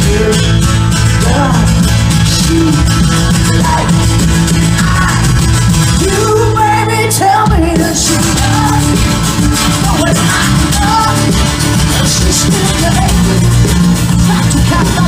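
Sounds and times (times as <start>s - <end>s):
bass guitar: 0.0s - 15.0s
drums: 0.0s - 15.0s
electric guitar: 0.0s - 15.0s.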